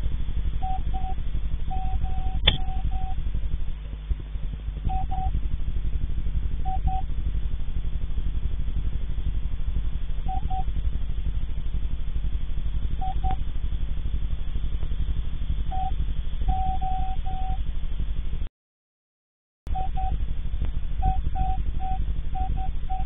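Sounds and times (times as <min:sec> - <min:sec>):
pulsing low hum: 0:00.0 - 0:18.5, 0:19.7 - 0:23.0.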